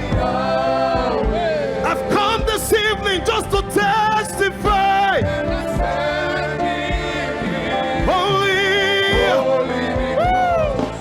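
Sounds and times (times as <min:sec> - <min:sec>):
sustained accompaniment: 0:00.0 - 0:11.0.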